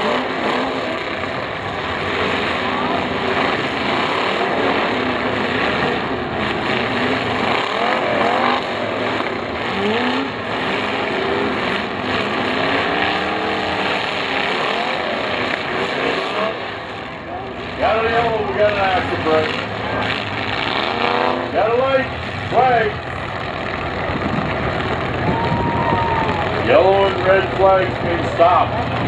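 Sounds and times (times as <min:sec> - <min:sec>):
car engines revving hard: 0:00.0 - 0:29.0.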